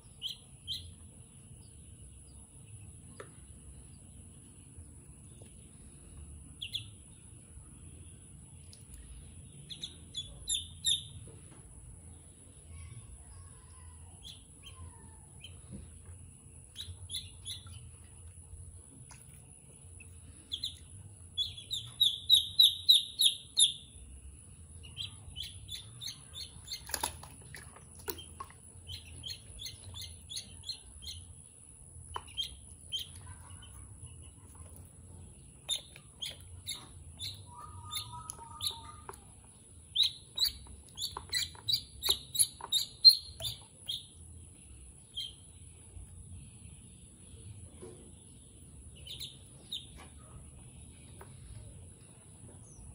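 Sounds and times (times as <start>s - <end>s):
ducklings peeping: 0.0s - 5.6s, 6.4s - 7.3s, 8.3s - 11.5s, 14.2s - 18.4s, 19.0s - 44.3s, 45.0s - 52.9s.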